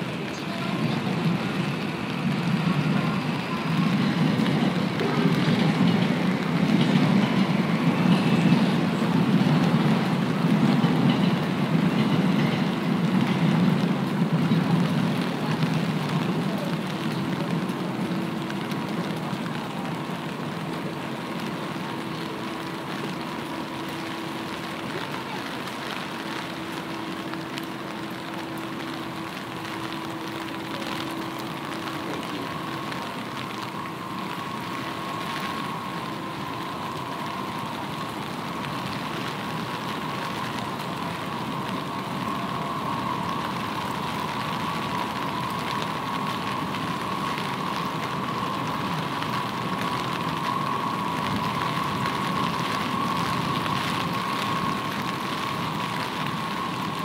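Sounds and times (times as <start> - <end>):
rain falling on street: 0.0 - 57.0.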